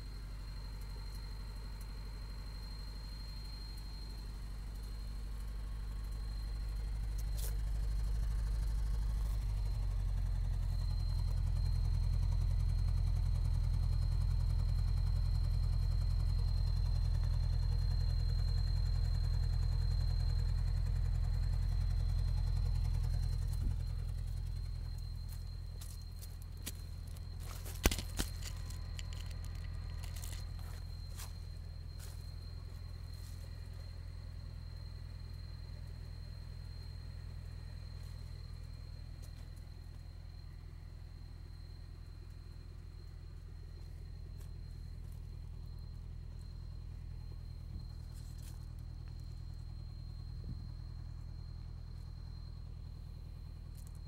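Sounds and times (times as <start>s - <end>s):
engine revving and idling: 0.0s - 54.0s.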